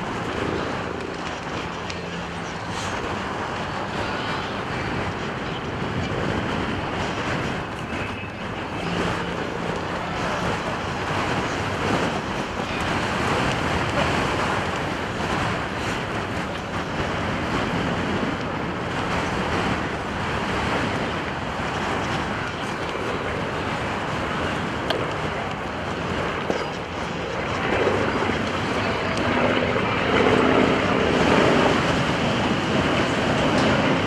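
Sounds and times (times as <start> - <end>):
distant propeller plane engines: 0.0 - 34.0
wind buffeting microphone: 0.0 - 34.0.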